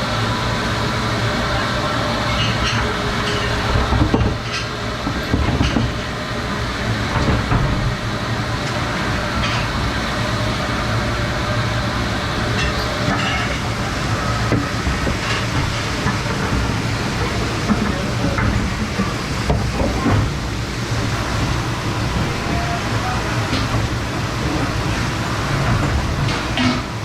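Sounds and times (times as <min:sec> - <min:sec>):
machinery hum and hiss: 0:00.0 - 0:27.0.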